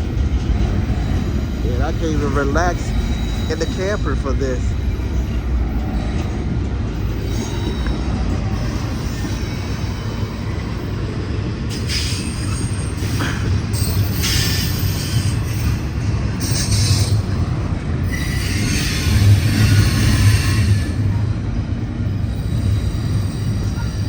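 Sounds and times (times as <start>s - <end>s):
freight train rumbling past: 0.0s - 24.0s
train wheel squeal: 0.0s - 24.0s.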